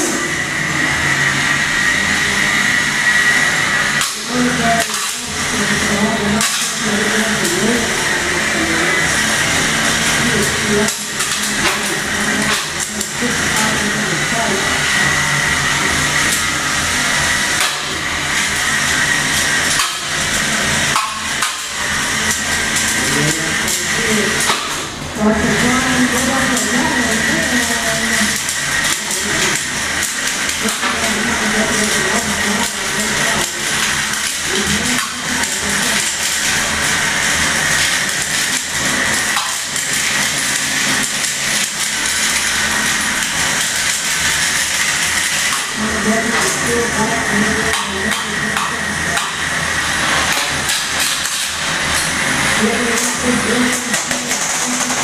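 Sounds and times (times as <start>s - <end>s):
electric motors whining: 0.0s - 55.0s.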